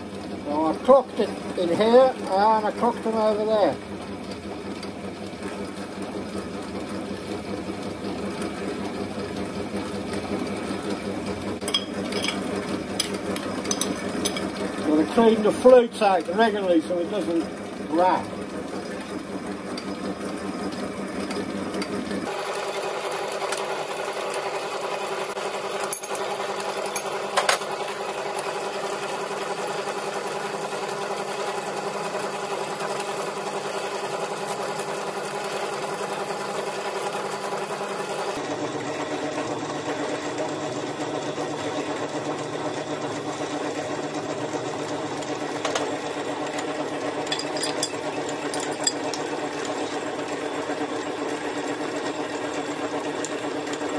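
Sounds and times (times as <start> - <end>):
lathe motor humming: 0.0 - 53.9.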